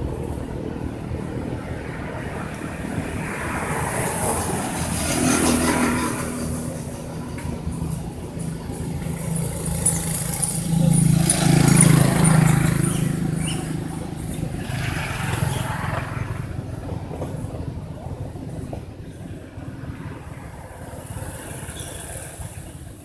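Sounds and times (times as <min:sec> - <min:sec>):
vehicle engine passing by: 0:00.6 - 0:23.0.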